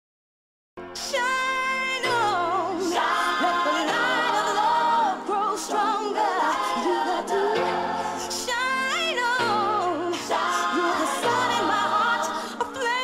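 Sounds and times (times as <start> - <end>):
song with sung vocals: 1.0 - 13.0.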